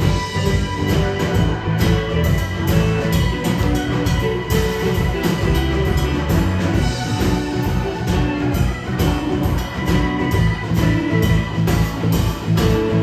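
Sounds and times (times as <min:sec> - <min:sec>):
blues-rock band playing: 0:00.0 - 0:13.0
drum-kit beat: 0:00.0 - 0:13.0
electric guitar: 0:00.0 - 0:13.0.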